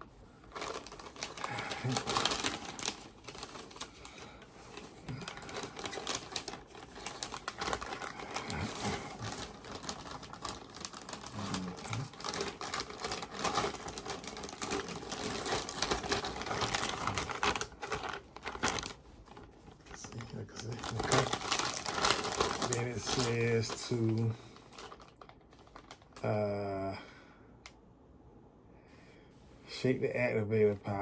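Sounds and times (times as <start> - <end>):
plastic packaging crinkling: 0.3 - 26.4.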